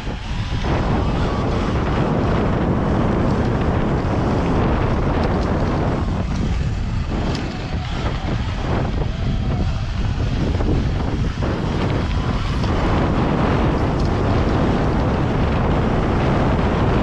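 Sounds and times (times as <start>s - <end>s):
dirt bike rumble: 0.0s - 17.0s
tyres on loose gravel: 0.0s - 17.0s
wind buffeting microphone: 0.0s - 17.0s.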